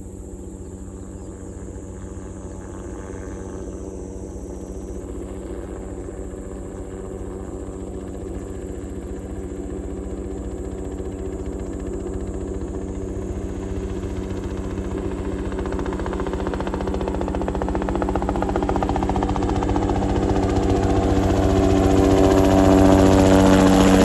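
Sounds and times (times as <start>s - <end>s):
helicopter rotor and engine: 0.0s - 24.0s.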